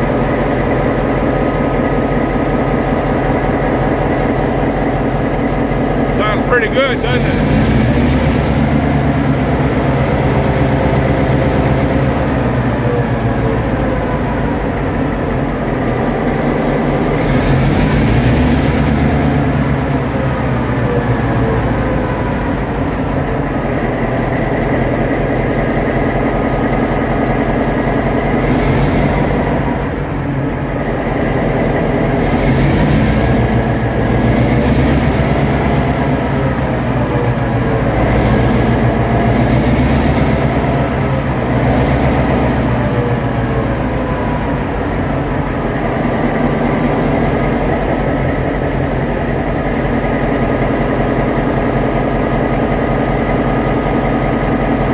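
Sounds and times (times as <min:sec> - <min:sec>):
diesel locomotive engine running: 0:00.0 - 0:54.9
engine noisy surges: 0:00.0 - 0:54.9.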